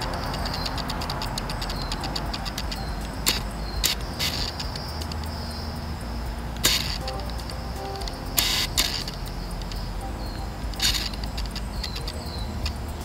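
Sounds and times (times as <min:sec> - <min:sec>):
distant traffic rumble: 0:00.0 - 0:13.0
high-pitched insect drone: 0:00.0 - 0:13.0.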